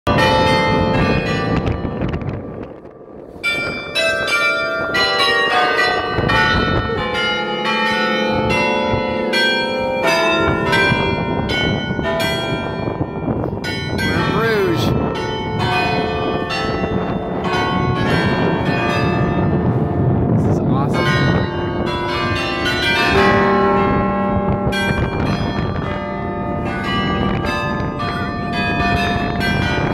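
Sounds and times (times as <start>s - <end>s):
carillon bells playing a tune: 0.1s - 2.5s, 3.2s - 29.9s.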